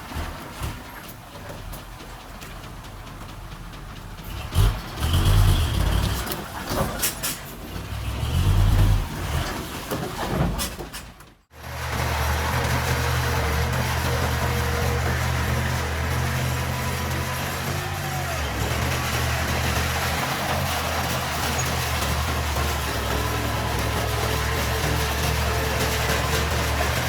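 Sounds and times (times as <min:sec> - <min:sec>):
diesel engine running steadily: 0:00.0 - 0:09.2, 0:11.4 - 0:27.0
knocks and clanks: 0:00.1 - 0:27.0
diesel machinery engine surging: 0:02.9 - 0:09.8, 0:11.5 - 0:27.0.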